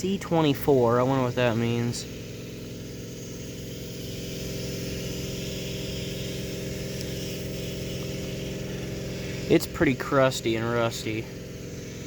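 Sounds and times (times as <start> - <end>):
pressure washer engine drone: 0.0 - 12.0.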